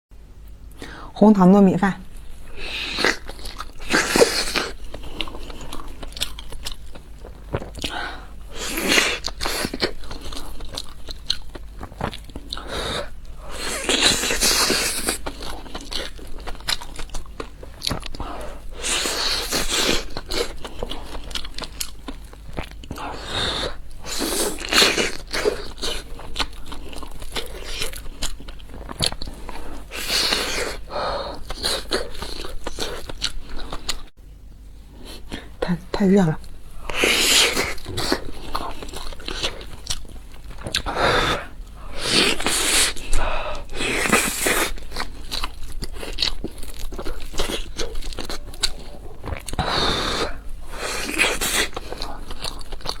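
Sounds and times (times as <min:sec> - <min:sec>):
crunchy bites and chewing: 0:02.5 - 0:34.1, 0:36.8 - 0:53.0.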